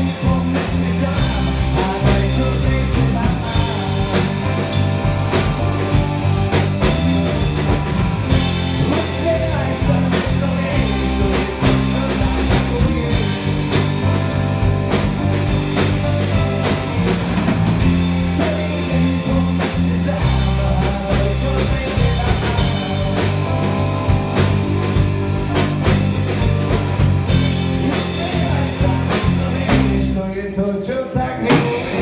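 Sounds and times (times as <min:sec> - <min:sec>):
drum kit beat: 0:00.0 - 0:30.3, 0:31.0 - 0:32.0
live rock band playing: 0:00.0 - 0:32.0.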